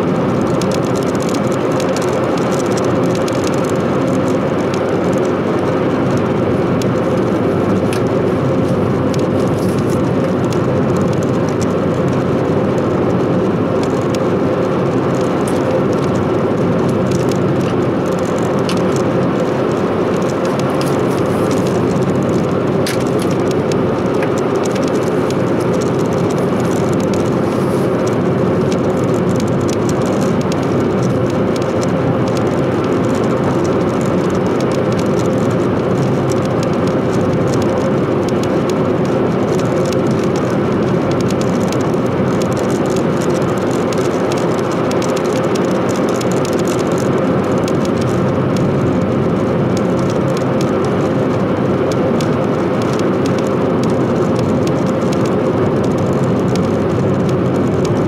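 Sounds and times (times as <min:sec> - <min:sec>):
car interior driving noise: 0:00.0 - 0:58.0.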